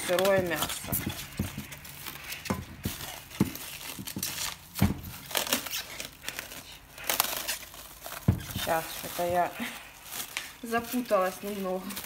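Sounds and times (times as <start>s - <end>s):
cling film crinkling: 0.0s - 12.0s.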